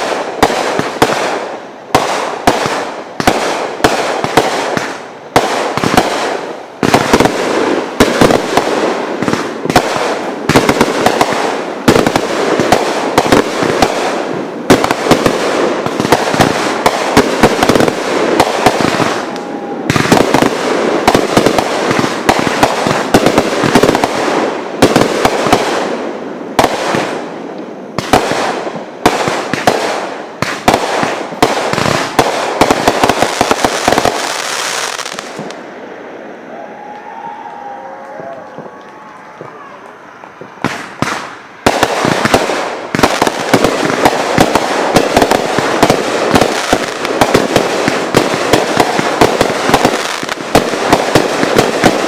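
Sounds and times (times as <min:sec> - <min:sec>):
fireworks bangs: 0:00.0 - 0:35.8, 0:38.2 - 0:52.0
fireworks crackling: 0:00.0 - 0:35.8, 0:38.2 - 0:52.0.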